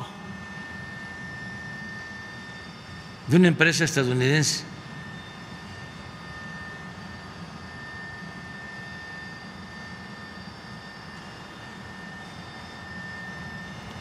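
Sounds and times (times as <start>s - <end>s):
helicopter engine and rotors droning: 0.0s - 14.0s
high-pitched whine: 0.0s - 14.0s.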